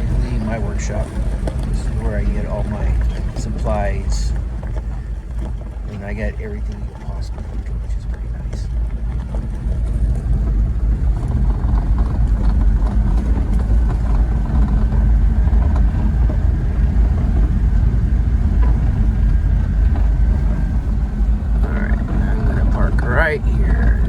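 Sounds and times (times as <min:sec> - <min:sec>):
faint steady whine: 0:00.0 - 0:24.0
road and wind noise: 0:00.0 - 0:24.0
truck engine running: 0:00.0 - 0:24.0.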